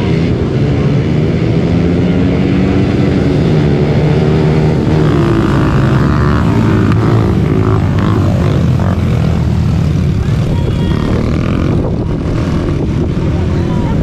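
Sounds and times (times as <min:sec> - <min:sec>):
quad engines revving: 0:00.0 - 0:14.0.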